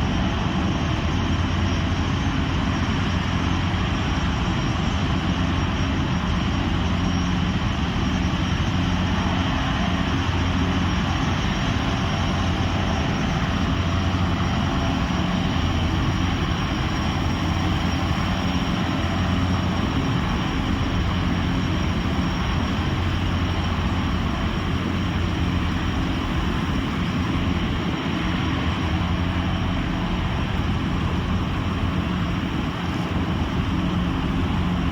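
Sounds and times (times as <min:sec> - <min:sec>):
gas turbine engines running: 0:00.0 - 0:34.9.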